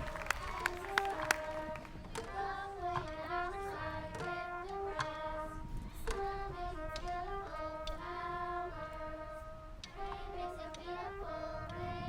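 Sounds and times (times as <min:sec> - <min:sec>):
children singing: 0:00.0 - 0:12.0
musical accompaniment: 0:00.0 - 0:12.0.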